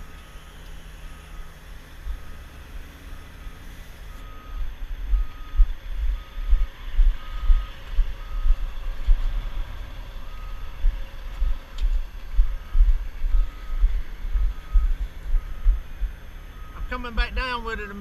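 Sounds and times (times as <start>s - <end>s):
low rumble: 0.0s - 17.0s
backup alarm beeping: 0.0s - 18.0s.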